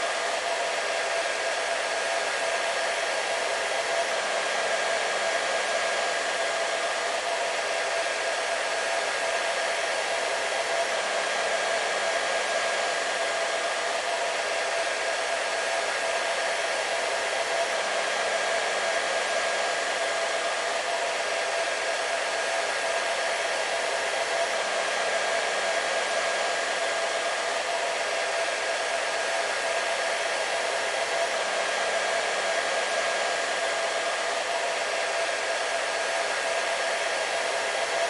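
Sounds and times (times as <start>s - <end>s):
hair dryer running: 0.0s - 38.0s.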